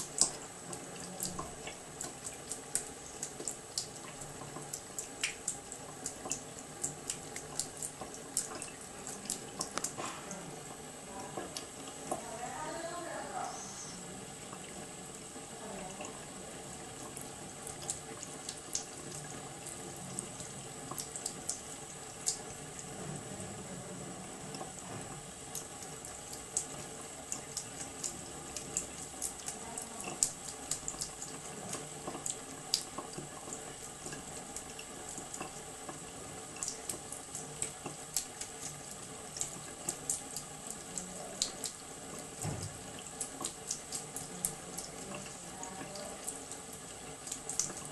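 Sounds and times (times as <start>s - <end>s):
cat lapping water: 0.0s - 12.2s, 14.2s - 23.6s, 24.2s - 47.9s
water running from tap into sink: 0.0s - 47.9s.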